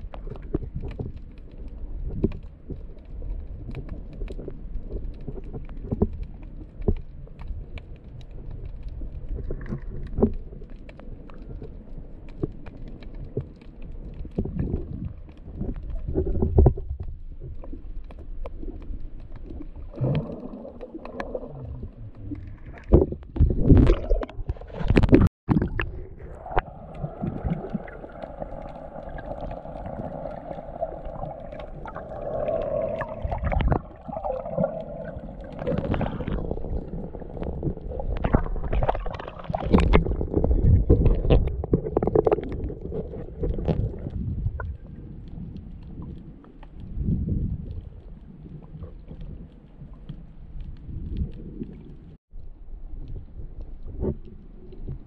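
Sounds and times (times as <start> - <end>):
underwater rumbling and gurgling: 0.0 - 55.0.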